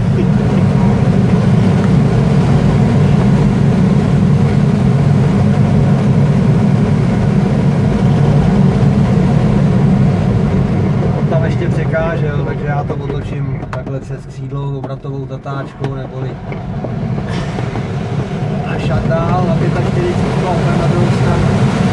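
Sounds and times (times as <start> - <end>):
airflow rushing around cockpit: 0.0 - 21.9.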